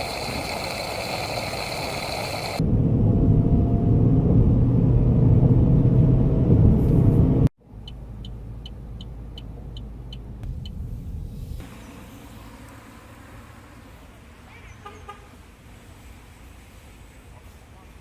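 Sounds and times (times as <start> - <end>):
car engine rumbling: 0.0 - 14.7.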